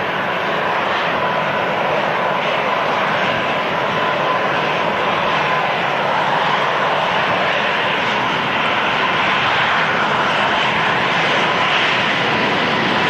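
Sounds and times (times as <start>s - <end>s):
faint jet engine whine: 0.0s - 13.0s
jet engines roaring: 0.0s - 13.0s.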